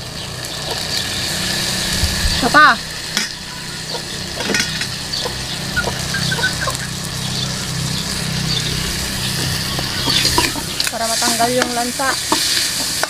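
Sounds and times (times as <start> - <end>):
low hum: 0.0 - 12.7
food sizzling in a pan: 0.0 - 13.0.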